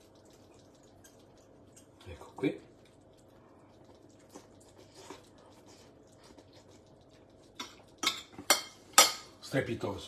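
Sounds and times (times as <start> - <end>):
faint eating sounds: 0.0 - 10.0.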